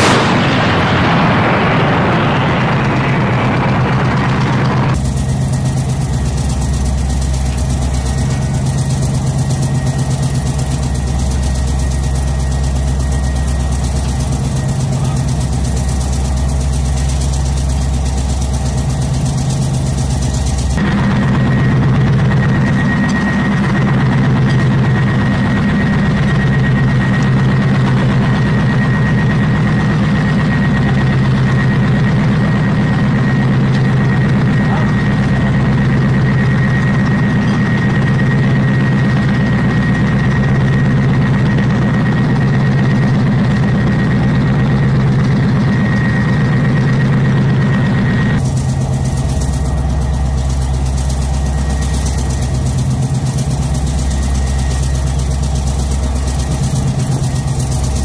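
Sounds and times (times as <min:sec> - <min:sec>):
diesel engine idling: 0:00.0 - 0:58.0
thin high whine: 0:00.0 - 0:58.0.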